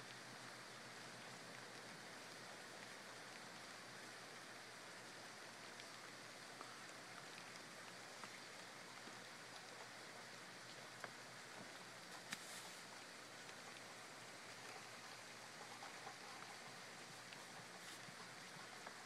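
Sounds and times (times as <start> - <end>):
faint steady rain: 0.0 - 19.0.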